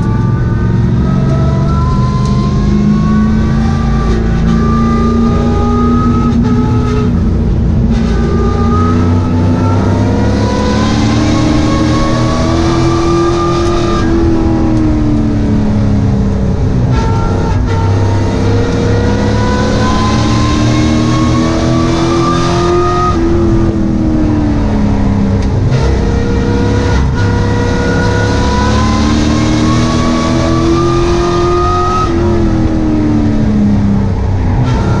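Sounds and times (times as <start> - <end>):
race truck engine revving: 0.0 - 35.0.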